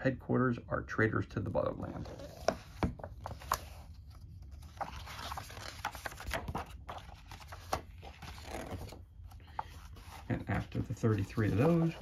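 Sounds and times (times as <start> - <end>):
book pages rustling: 1.6 - 12.0.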